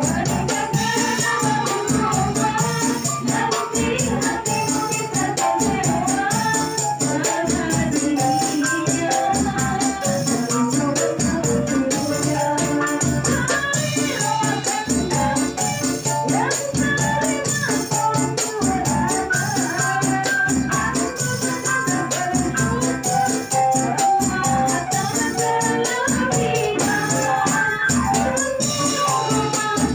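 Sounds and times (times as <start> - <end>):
electronic keyboard: 0.0 - 29.9
tambourine jingling: 0.0 - 29.9
women singing together: 0.0 - 29.9.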